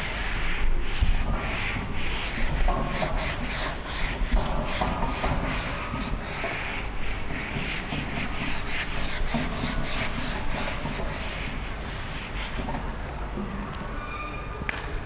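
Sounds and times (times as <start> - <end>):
eraser rubbing on whiteboard: 0.1 - 12.8.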